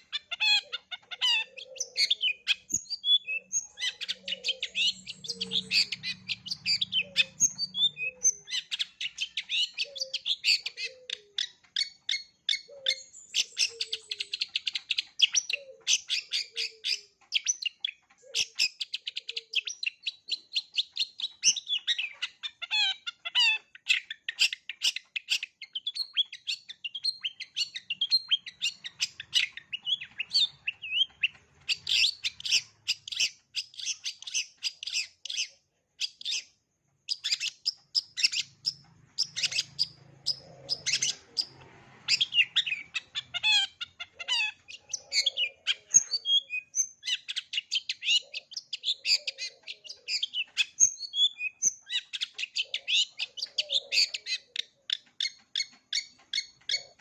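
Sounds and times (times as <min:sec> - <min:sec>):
bird singing chattering notes: 0:00.0 - 0:57.0.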